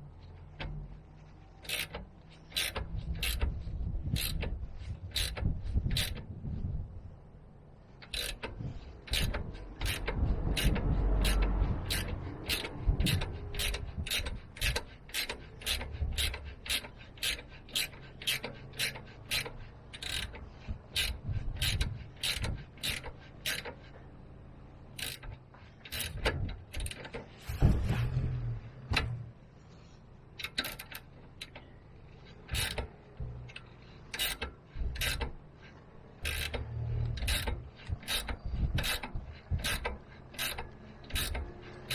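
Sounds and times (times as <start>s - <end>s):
ratchet wrench clicking: 1.6s - 6.3s, 7.9s - 24.0s, 24.8s - 27.8s, 30.4s - 41.9s.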